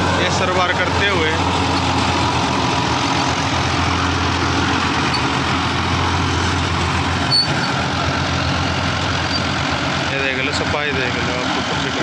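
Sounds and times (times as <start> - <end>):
rotary seeder churning soil: 0.0 - 12.0
tractor engine under load: 0.0 - 12.0.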